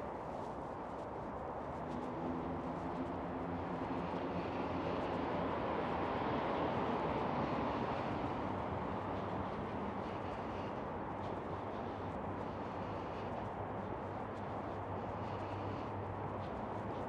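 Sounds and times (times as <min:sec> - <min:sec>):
passing vehicle engine and tyres: 0:01.8 - 0:17.0.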